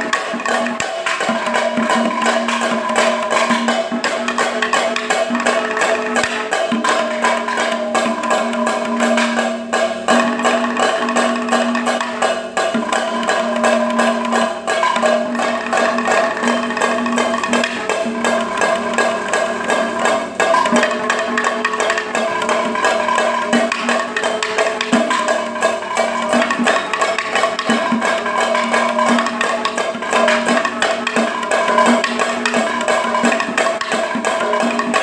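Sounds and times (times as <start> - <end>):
barrel drums struck by hand: 0.0 - 35.0
drums beaten with sticks: 0.0 - 35.0.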